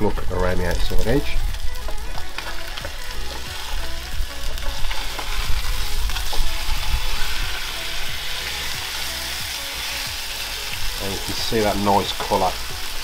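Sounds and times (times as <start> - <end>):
fish sizzling in a pan: 0.5 - 13.0.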